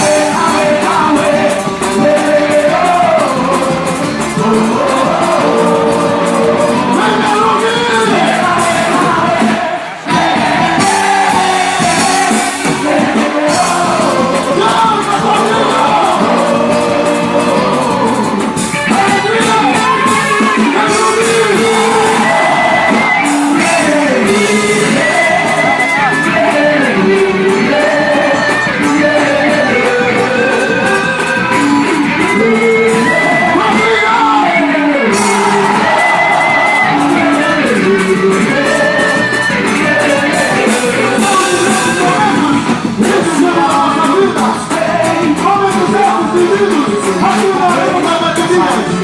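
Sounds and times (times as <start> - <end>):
loud music with singing: 0.0 - 49.0.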